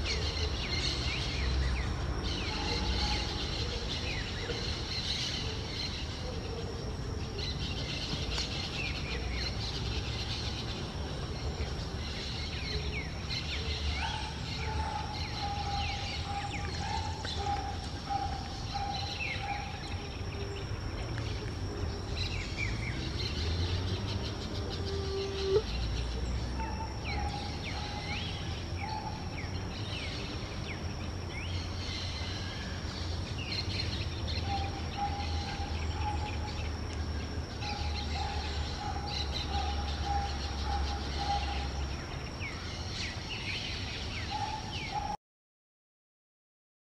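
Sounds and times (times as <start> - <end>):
insect drone: 0.0 - 45.1.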